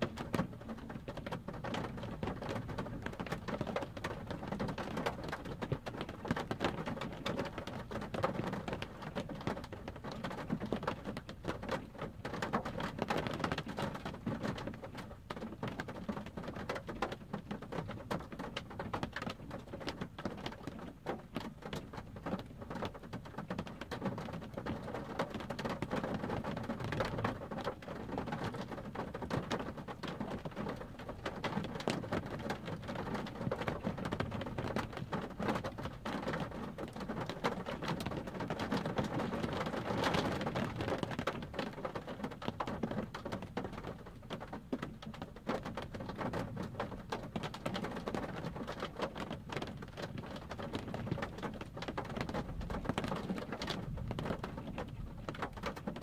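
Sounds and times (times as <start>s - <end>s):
rain on car windshield and roof: 0.0s - 56.0s.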